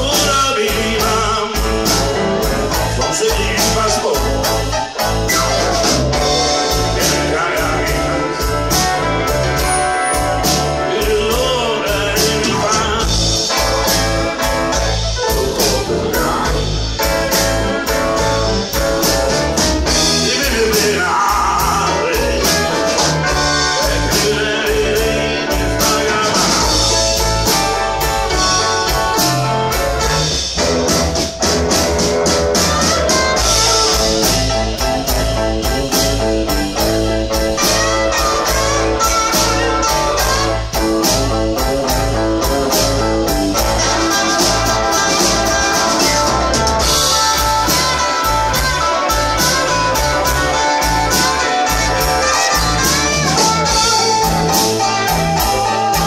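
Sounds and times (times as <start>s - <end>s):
electric guitar: 0.0s - 56.0s
keyboard: 0.0s - 56.0s
steady drum beat: 0.0s - 56.0s.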